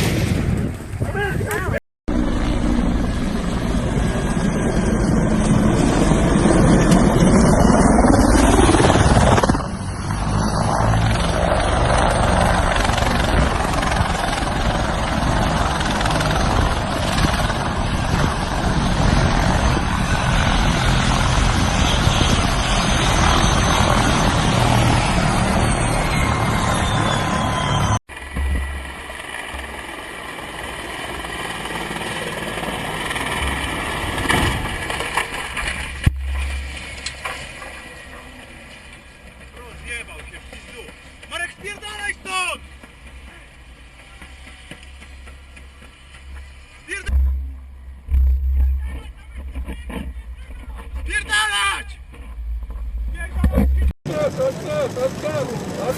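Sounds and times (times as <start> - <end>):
helicopter rotor and engine: 2.1 - 48.2, 48.8 - 55.9.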